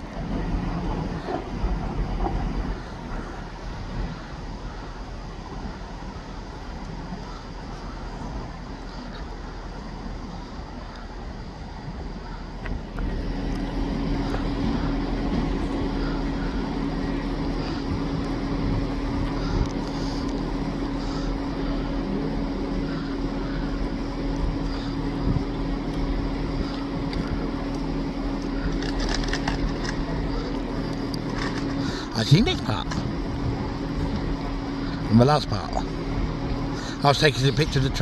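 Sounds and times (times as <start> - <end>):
constant electric hum: 0.0 - 38.0
train rumble: 0.0 - 38.0.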